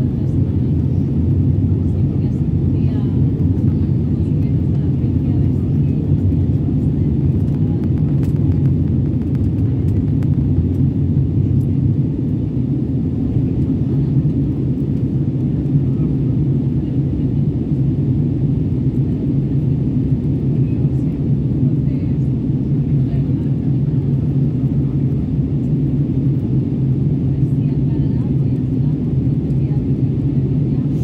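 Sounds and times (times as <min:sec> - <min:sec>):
jet engines droning in cabin: 0:00.0 - 0:31.0.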